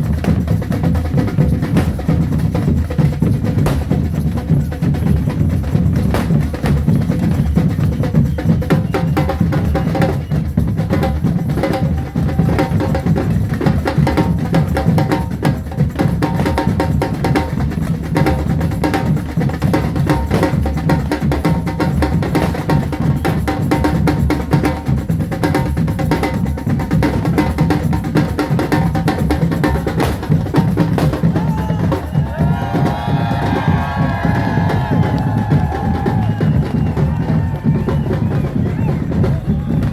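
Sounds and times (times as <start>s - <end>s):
deep bass drum beats: 0.0s - 39.9s
marching drums playing: 0.0s - 39.9s.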